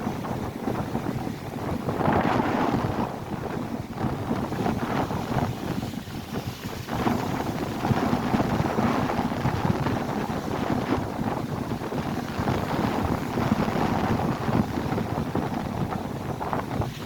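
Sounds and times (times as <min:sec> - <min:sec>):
waves crashing on shore: 0:00.0 - 0:17.0
wind buffeting microphone: 0:00.0 - 0:17.0.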